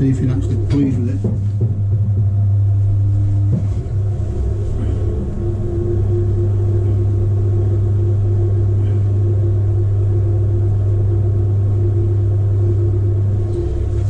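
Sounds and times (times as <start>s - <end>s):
potter's wheel motor hum: 0.0s - 14.0s.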